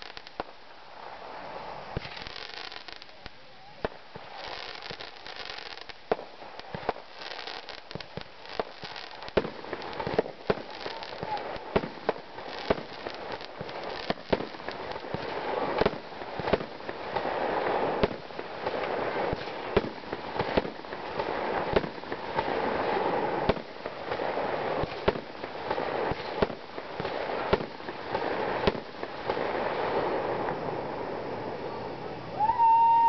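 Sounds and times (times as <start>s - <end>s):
fireworks bangs and pops: 0.0s - 33.0s.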